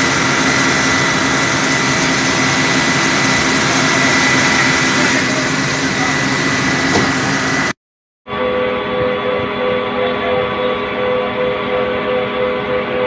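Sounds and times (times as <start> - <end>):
fire truck engines running: 0.0 - 13.0.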